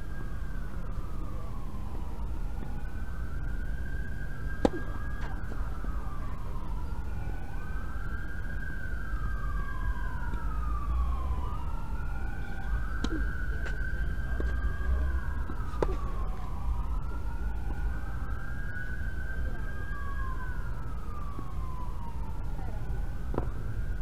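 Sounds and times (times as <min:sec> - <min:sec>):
emergency siren wailing: 0:00.0 - 0:24.0.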